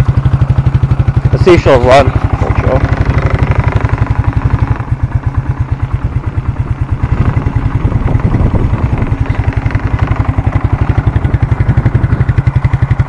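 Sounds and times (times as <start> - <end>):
quad bike engine idling: 0.0 - 13.0.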